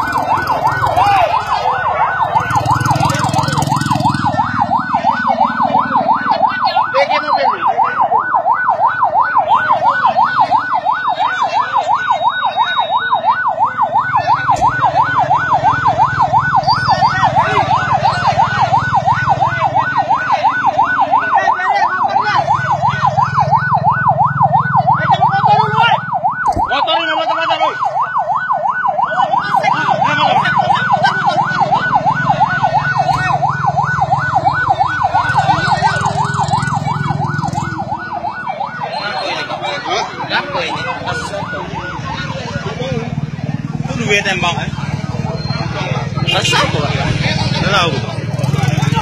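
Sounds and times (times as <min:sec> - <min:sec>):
yelping emergency siren: 0:00.0 - 0:49.0.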